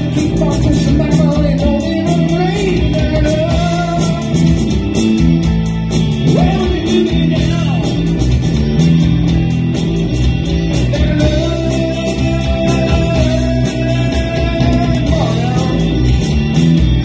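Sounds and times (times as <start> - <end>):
rock band playing: 0.0 - 17.0
sliding lead melody: 0.0 - 17.0.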